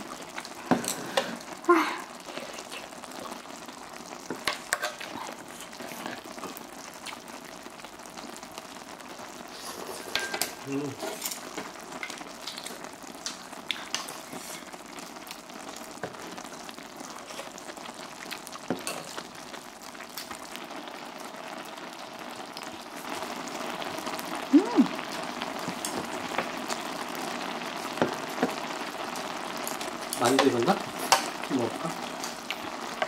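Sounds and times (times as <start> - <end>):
stew bubbling and sizzling: 0.0 - 33.0.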